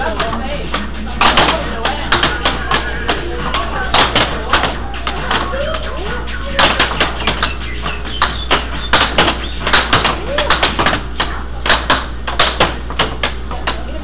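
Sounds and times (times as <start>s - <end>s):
air hockey puck clacking: 0.0s - 14.0s.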